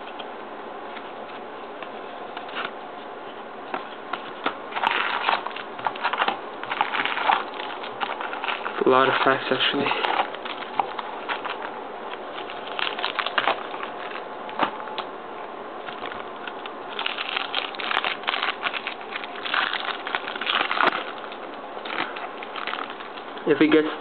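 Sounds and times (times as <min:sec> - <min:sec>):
wrappers crinkling: 0:03.7 - 0:15.1, 0:15.8 - 0:23.9.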